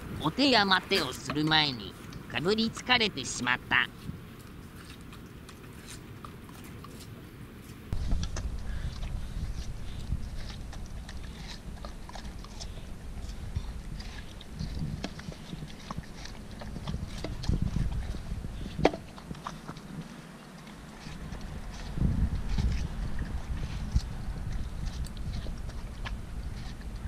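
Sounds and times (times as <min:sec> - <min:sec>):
low steady rumble: 0:00.0 - 0:27.0
puppy chewing watermelon: 0:00.0 - 0:27.0.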